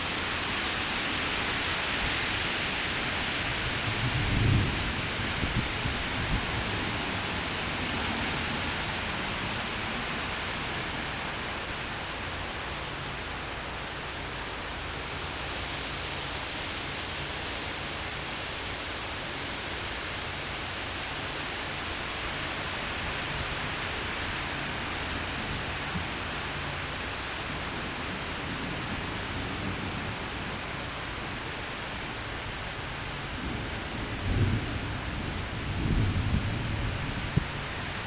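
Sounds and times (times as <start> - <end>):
rain: 0.0 - 38.0
strong wind: 0.0 - 38.0.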